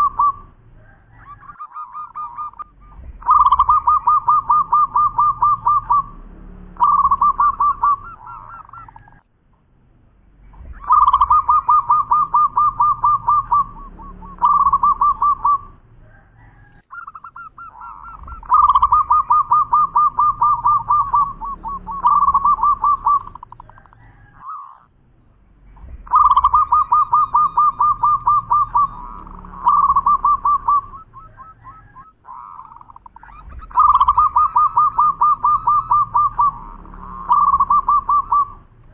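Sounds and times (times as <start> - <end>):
dove cooing song: 0.0 - 9.3, 10.4 - 24.9, 25.6 - 38.9.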